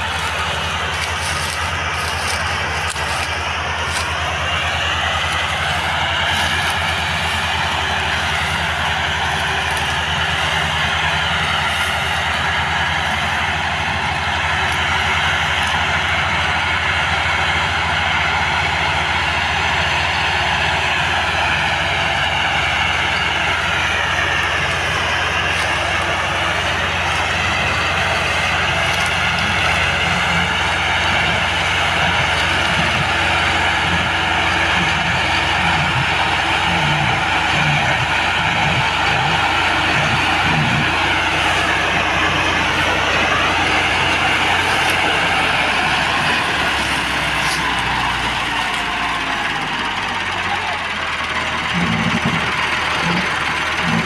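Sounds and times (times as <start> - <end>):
tractor diesel engines droning: 0.0 - 54.0.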